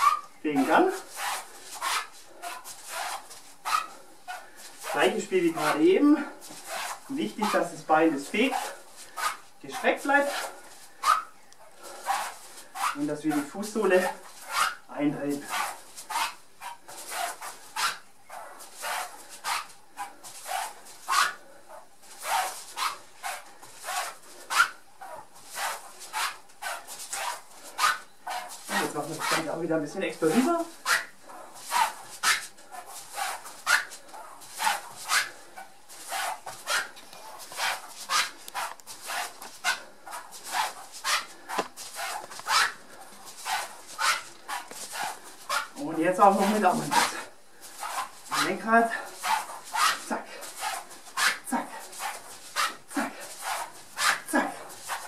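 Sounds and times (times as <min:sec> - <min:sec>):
heavy rhythmic breathing: 0:00.0 - 0:55.0.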